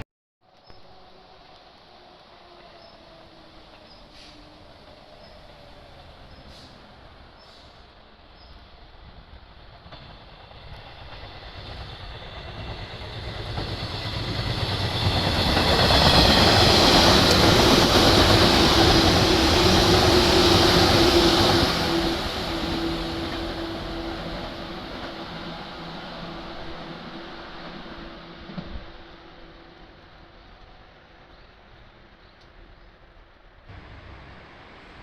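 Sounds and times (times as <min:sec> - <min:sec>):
train hum: 0:00.4 - 0:35.0
train wheels rushing on rail: 0:01.0 - 0:32.2, 0:33.6 - 0:35.0.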